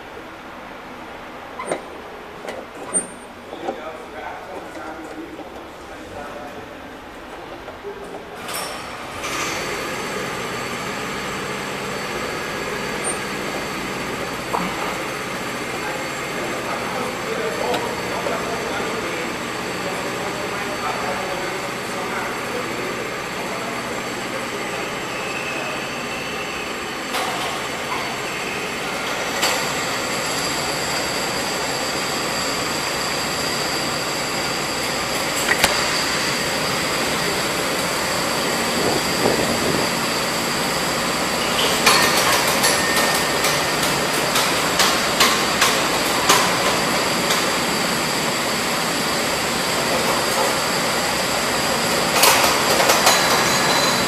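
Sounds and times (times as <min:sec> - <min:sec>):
go-karts driving: 0:00.9 - 0:54.0.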